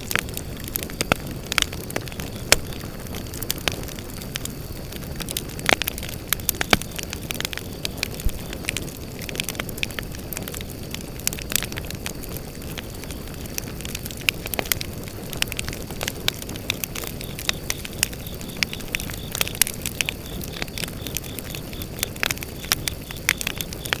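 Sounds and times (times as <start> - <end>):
campfire crackling and popping: 0.0 - 24.0
insects chirring: 0.0 - 24.0.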